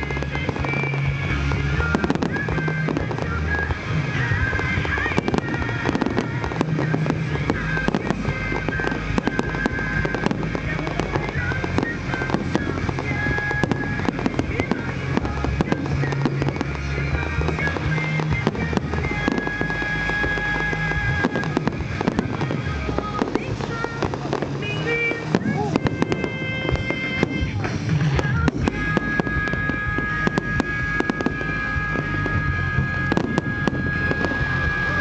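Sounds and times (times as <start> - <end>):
fireworks bursting and crackling: 0.0 - 35.0
music with steady bass: 0.0 - 35.0.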